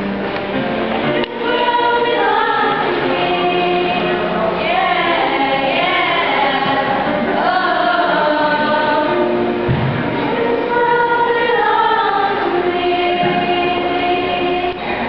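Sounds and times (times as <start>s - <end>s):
choir singing long notes: 0.9s - 15.0s.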